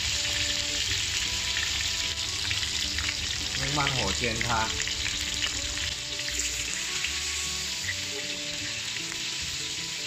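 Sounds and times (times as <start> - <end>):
fish sizzling in oil: 0.0 - 10.0.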